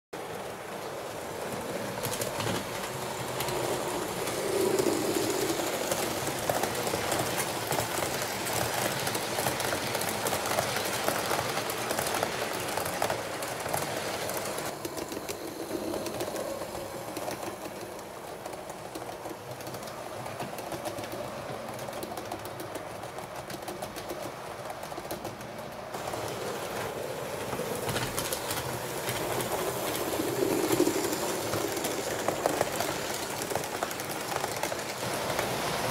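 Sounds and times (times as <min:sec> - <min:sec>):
wheels clicking over rail joints: 0:00.2 - 0:35.9.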